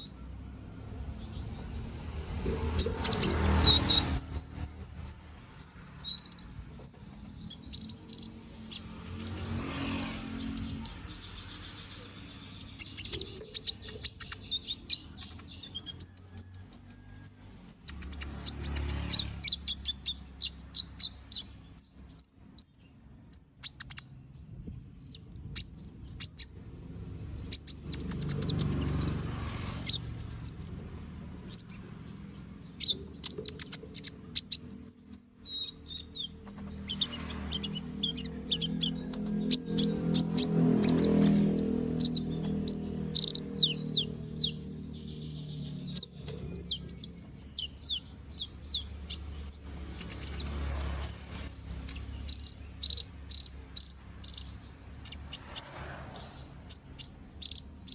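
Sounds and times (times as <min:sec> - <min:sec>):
sunbird twittering song: 0:00.0 - 0:57.9.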